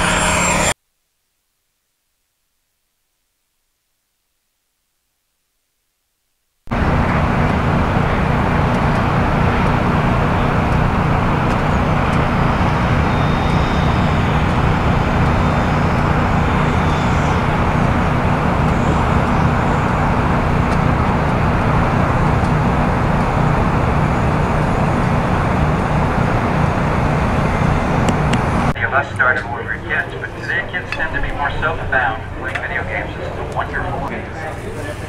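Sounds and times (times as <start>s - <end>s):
faint high whine: 0.0s - 1.2s, 6.7s - 34.5s
model jet turbine roar: 6.7s - 35.0s.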